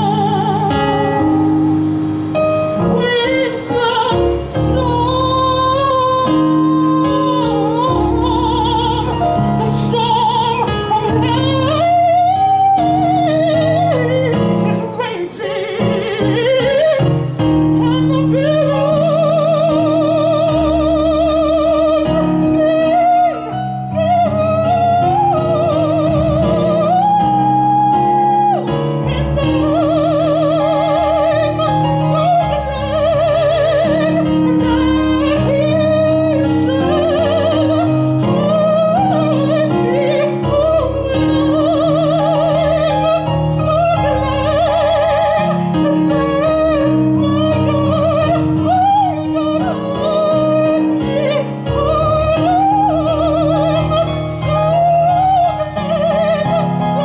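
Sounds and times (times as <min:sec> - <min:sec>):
electronic keyboard chords: 0:00.0 - 0:57.0
woman singing operatically: 0:00.0 - 0:57.0.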